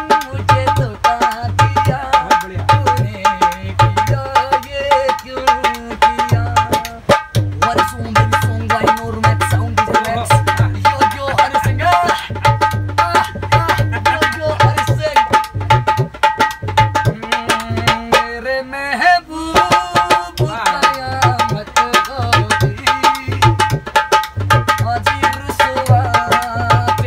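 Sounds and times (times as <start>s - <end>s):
hand drum folk rhythm: 0.0s - 18.4s, 19.4s - 27.0s
man singing: 0.0s - 27.0s.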